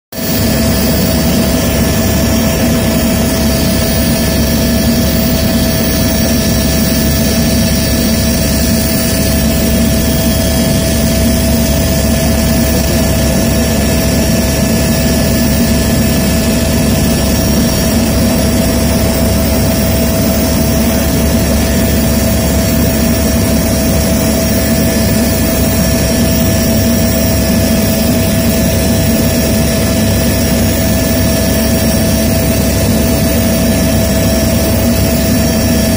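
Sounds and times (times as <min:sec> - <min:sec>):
aircraft rumble and whine: 0:00.1 - 0:35.9.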